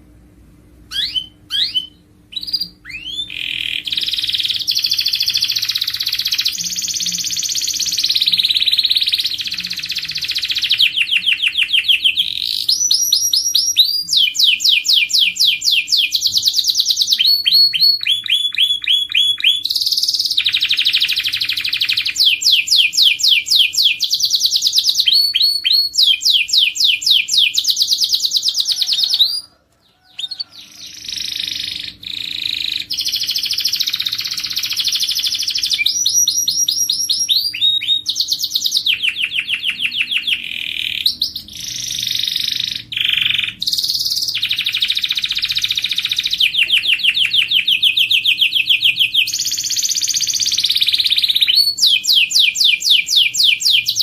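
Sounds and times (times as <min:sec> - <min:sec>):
canary singing trills: 0:00.9 - 0:54.0.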